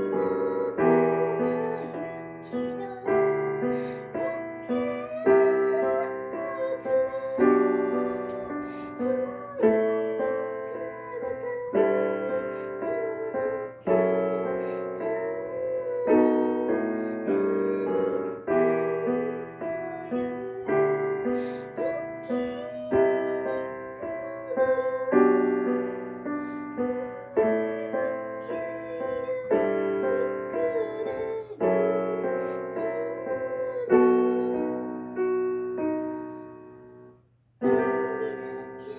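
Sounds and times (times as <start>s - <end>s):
slow piano music: 0.0s - 38.9s.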